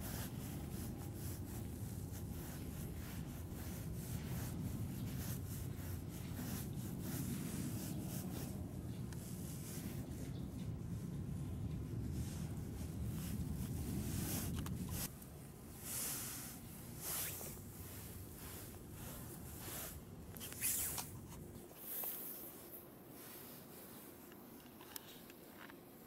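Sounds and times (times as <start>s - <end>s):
rustling swishes: 0.0s - 24.6s.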